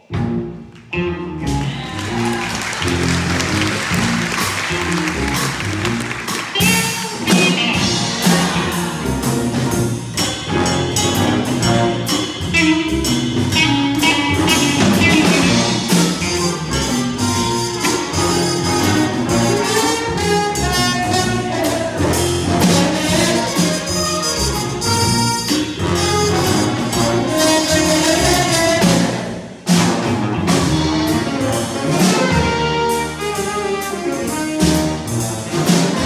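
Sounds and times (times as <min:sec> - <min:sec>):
jazz big band playing: 0:00.0 - 0:36.0.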